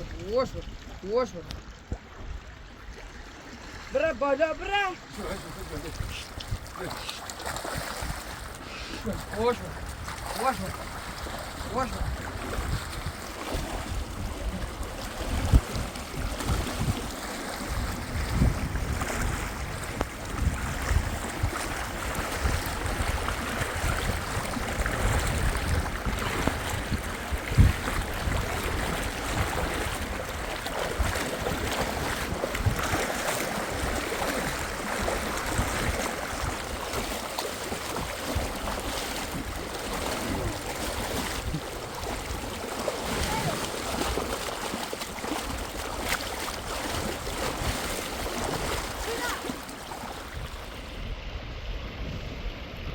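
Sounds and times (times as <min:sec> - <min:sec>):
river water rushing: 0:02.4 - 0:51.1
wind buffeting microphone: 0:04.8 - 0:49.4, 0:50.2 - 0:52.9.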